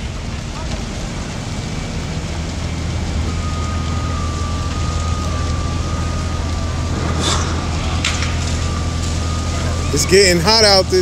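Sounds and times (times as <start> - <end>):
fire engines droning: 0.0 - 11.0
flames hissing: 0.0 - 11.0
thin steady whine: 0.0 - 11.0.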